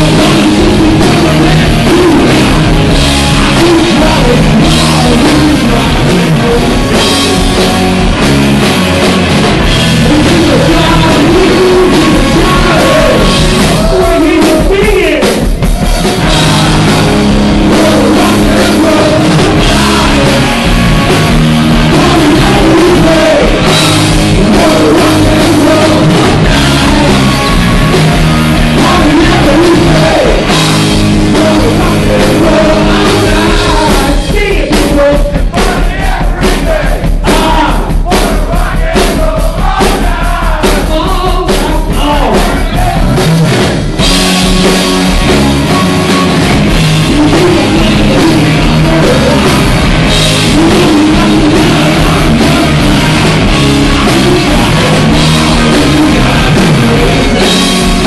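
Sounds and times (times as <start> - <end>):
drum hits: 0.0 - 58.0
rock band playing: 0.0 - 58.0.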